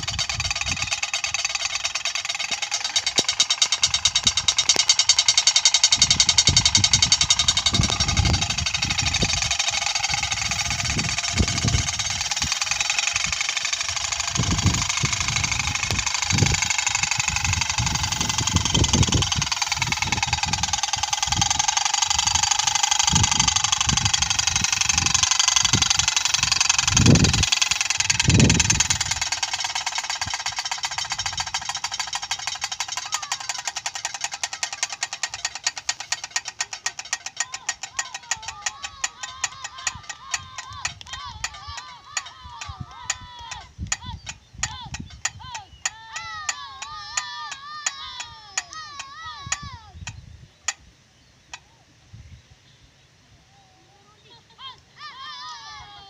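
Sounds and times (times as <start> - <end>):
wind buffeting microphone: 0.0 - 2.0, 3.0 - 47.3, 48.0 - 50.7
propeller bird scarer whirring: 0.0 - 50.9.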